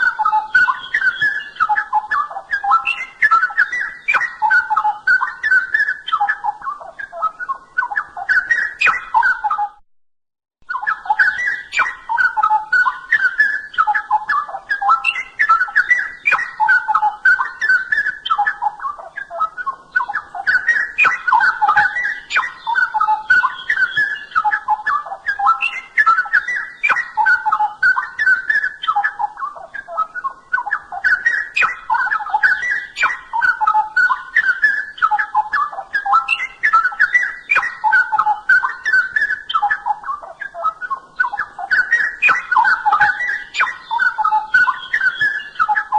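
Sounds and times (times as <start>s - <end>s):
bird singing whistled warble: 0.0s - 9.8s, 10.6s - 45.9s
high bird chirps: 0.0s - 9.8s, 10.6s - 45.9s.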